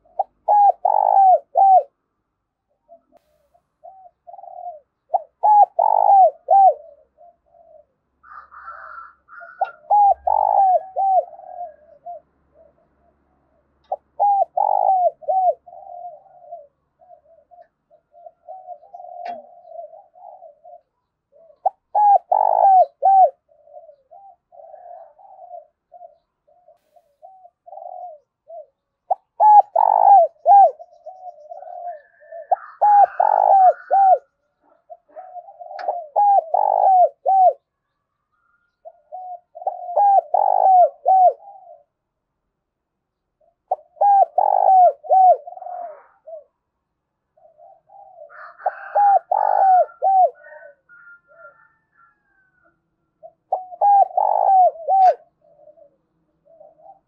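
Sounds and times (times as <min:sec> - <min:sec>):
dove cooing: 0:00.0 - 0:42.2, 0:43.2 - 0:57.0.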